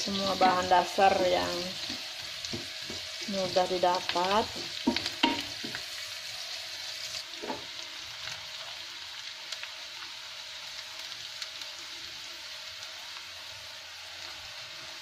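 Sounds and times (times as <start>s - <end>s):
shallots sizzling in hot oil: 0.0s - 15.0s.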